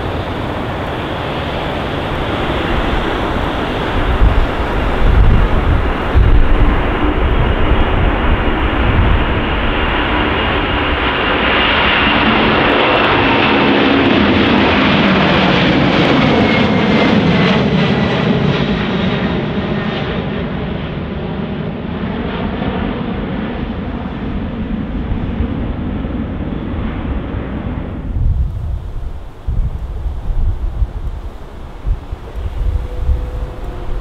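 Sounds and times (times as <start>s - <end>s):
jet airliner passing: 0.0s - 34.0s.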